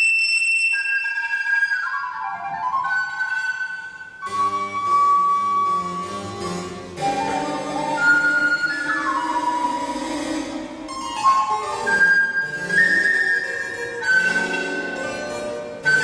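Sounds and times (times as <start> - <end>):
lower accompanying instrument: 0.0 - 16.0
recorder playing held notes: 0.0 - 16.0.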